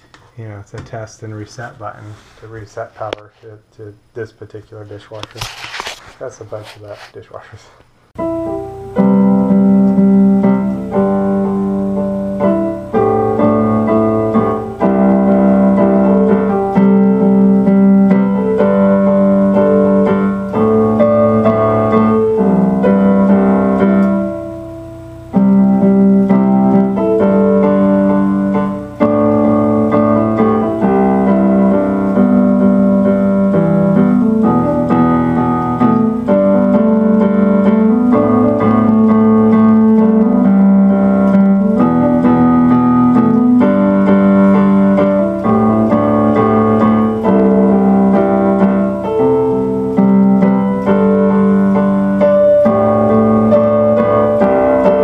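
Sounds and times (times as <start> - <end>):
slow solo piano chords: 8.2 - 55.0.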